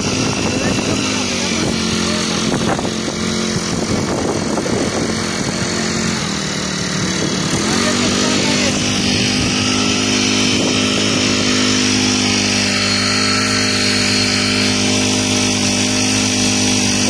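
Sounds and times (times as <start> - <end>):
high-pressure mist hissing: 0.0 - 16.9
power sprayer pump running: 0.0 - 17.0.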